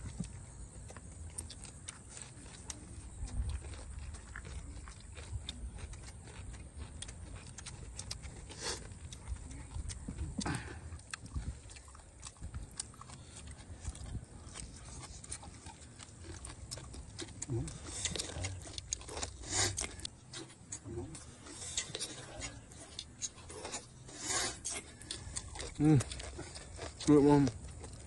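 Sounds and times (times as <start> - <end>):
wet chewing and lip-smacking: 0.0 - 28.0.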